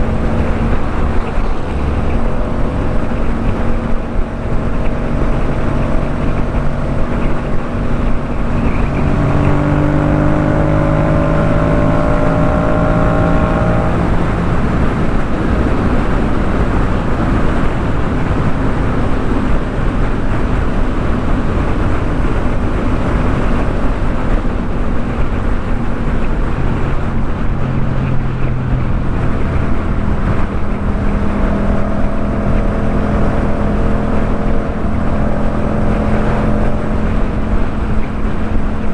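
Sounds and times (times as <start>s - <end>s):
motorcycle engine accelerating: 0.0s - 38.9s
wind and road rush: 0.0s - 38.9s.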